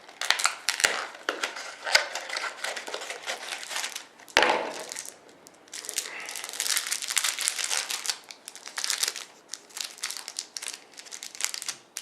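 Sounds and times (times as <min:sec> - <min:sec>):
wrapper tearing and crinkling: 0:00.0 - 0:12.0.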